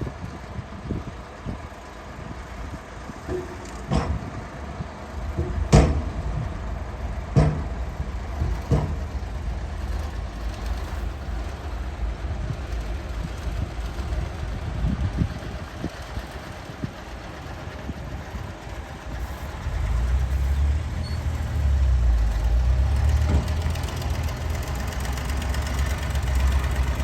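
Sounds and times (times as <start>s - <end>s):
diesel machinery rumbling: 0.0s - 27.0s.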